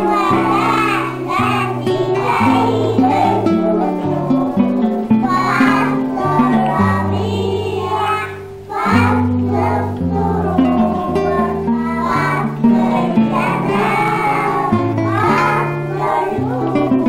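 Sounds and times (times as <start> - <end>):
girls singing in unison: 0.0 - 17.0
instrumental accompaniment: 0.0 - 17.0.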